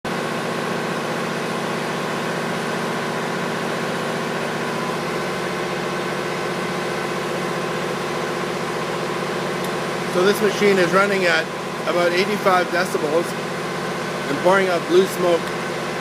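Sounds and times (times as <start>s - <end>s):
pressure washer engine droning: 0.1s - 16.0s.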